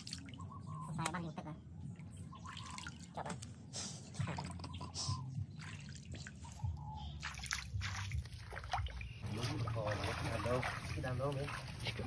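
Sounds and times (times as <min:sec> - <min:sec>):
water splashing and dripping: 0:00.0 - 0:01.3, 0:01.9 - 0:12.0.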